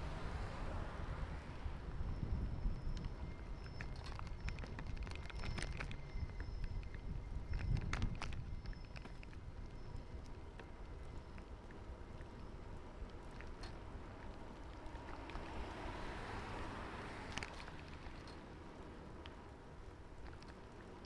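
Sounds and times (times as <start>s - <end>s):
bicycle road noise: 0.0s - 21.0s
wind rumbling on microphone: 0.0s - 21.0s
small clicks and rattles: 2.7s - 15.9s, 17.1s - 21.0s.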